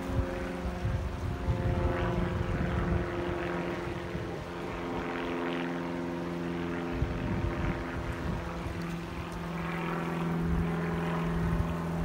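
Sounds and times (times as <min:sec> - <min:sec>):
distant engine droning: 0:00.0 - 0:12.0.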